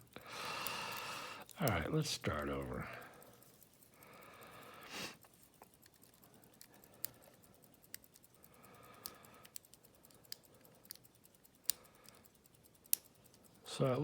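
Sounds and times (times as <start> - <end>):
lock pick metallic ticks: 0.0 - 14.0.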